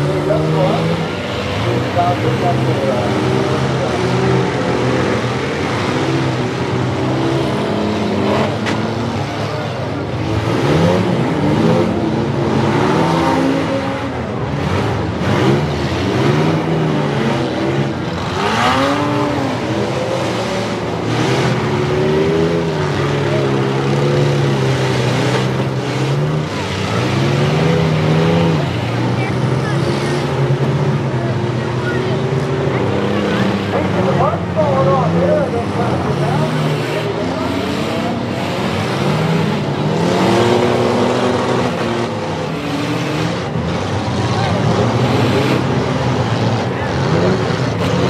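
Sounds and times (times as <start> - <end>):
car engines revving: 0.0 - 48.0
vehicles crashing: 0.0 - 48.0.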